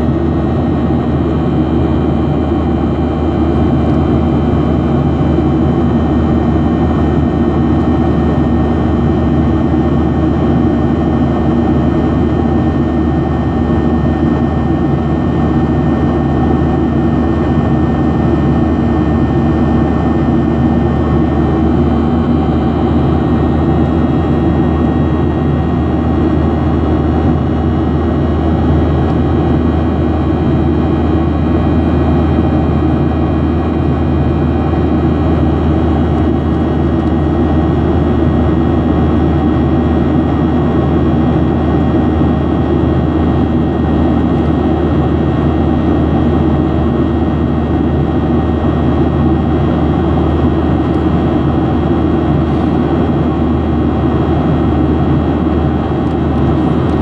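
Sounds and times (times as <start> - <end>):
jet engine roar in cabin: 0.0 - 57.0.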